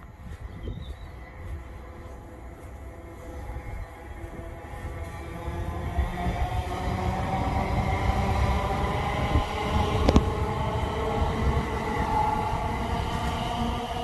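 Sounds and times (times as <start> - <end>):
electric train hum: 0.0 - 14.0
train wheels rumbling on rail: 0.0 - 14.0.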